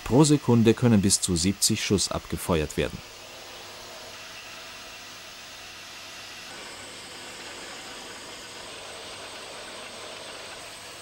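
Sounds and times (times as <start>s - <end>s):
thin high whine: 0.8s - 11.0s.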